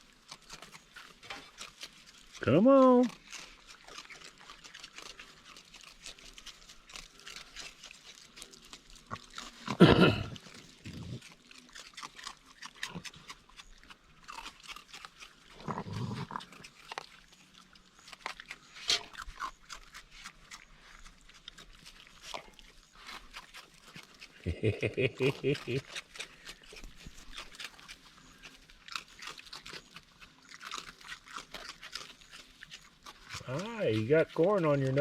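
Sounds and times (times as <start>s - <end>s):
raccoons crunching dry food: 0.0s - 35.0s.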